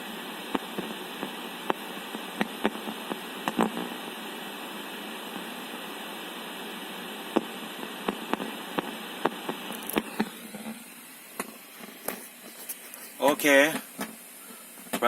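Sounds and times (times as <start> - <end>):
static hiss from car speaker: 0.0 - 15.0.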